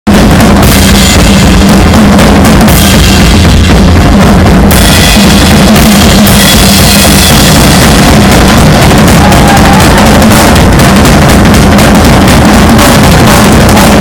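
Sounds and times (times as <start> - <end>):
cymbal crashes: 0.1 - 14.0
drum kit solo: 0.1 - 14.0.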